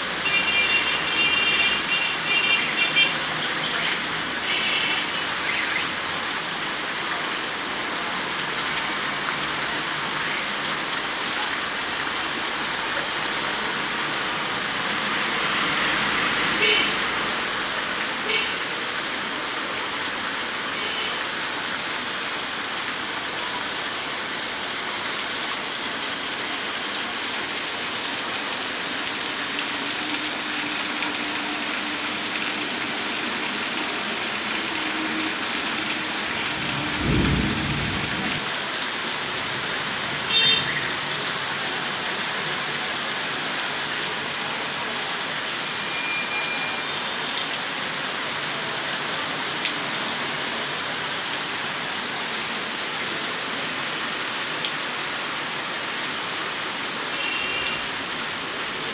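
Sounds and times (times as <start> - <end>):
heavy rain pouring on street: 0.0 - 58.9.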